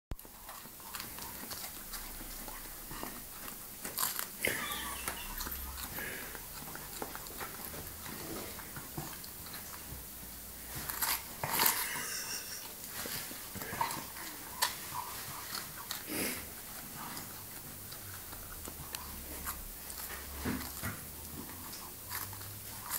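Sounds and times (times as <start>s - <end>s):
dog crunching cabbage: 0.1s - 22.9s.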